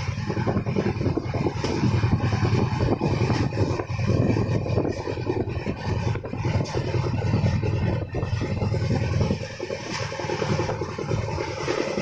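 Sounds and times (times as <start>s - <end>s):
train rattling and clatter: 0.0s - 12.0s
train wheels rumbling on rails: 0.0s - 12.0s.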